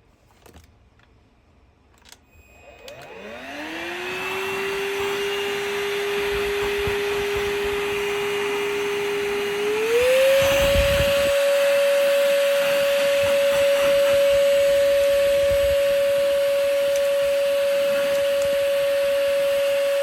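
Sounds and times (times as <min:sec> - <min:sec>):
vacuum cleaner motor whining: 0:02.3 - 0:20.0.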